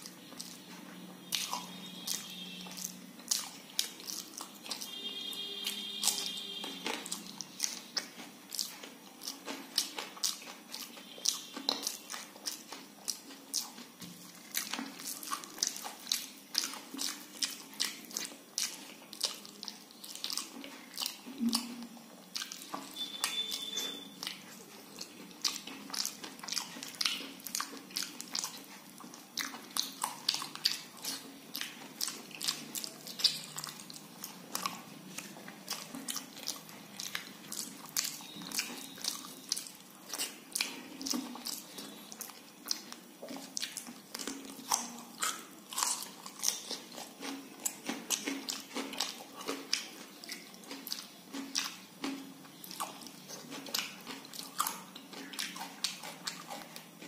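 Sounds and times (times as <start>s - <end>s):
wet mouth chewing: 0.0s - 57.0s.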